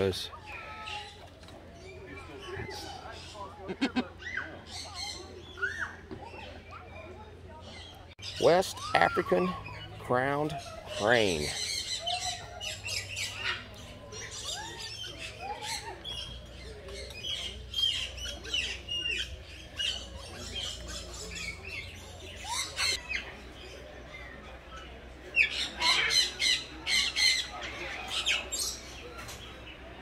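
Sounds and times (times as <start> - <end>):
birds squawking and chirping: 0.0 - 30.0.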